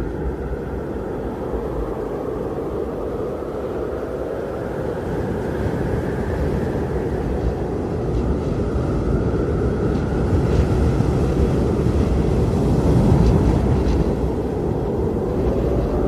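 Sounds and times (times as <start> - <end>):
blizzard wind roaring: 0.0 - 16.0.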